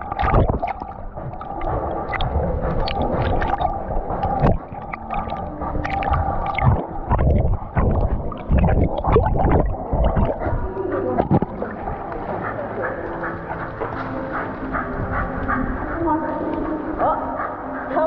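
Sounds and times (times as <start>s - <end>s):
water gurgling and splashing: 0.0s - 17.3s
low rumble: 0.0s - 17.4s.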